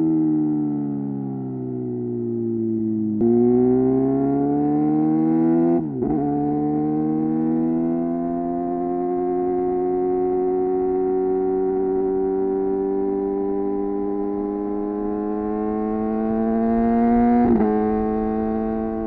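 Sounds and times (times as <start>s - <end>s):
motorcycle engine accelerating: 0.9s - 19.0s.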